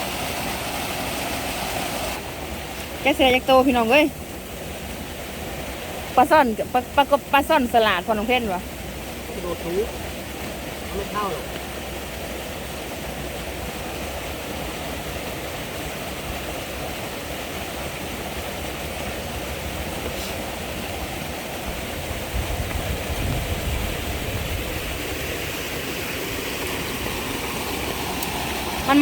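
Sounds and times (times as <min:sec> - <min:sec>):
stream rushing: 0:00.0 - 0:29.0.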